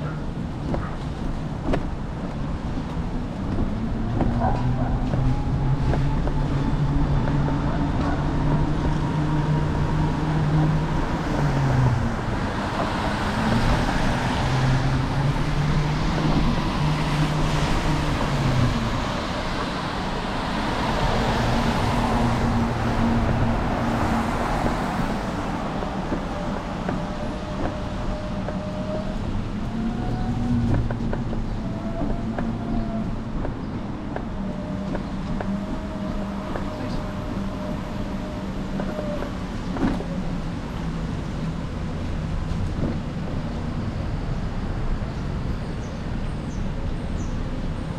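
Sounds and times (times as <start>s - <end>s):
cars passing: 0.0s - 47.9s.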